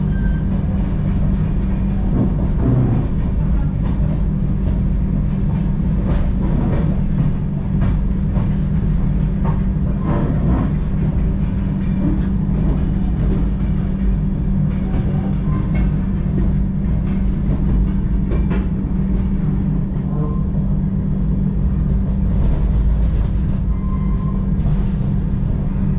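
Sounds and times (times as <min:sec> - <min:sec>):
train rumbling on tracks: 0:00.0 - 0:25.9.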